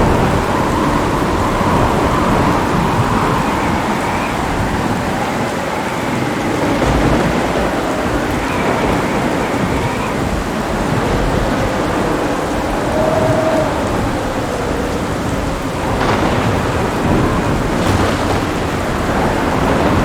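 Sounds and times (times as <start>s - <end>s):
heavy rain: 0.0s - 20.0s
low rolling thunder: 0.0s - 20.0s.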